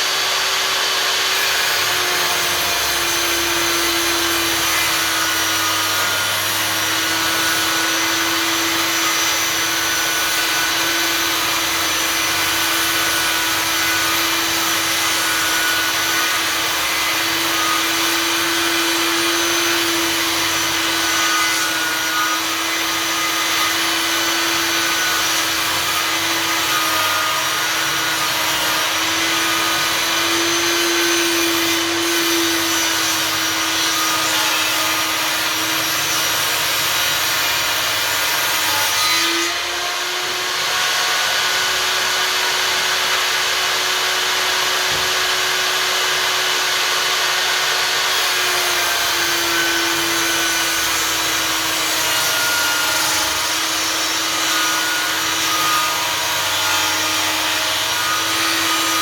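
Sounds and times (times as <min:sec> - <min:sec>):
table saw motor whine: 0:00.0 - 0:59.0.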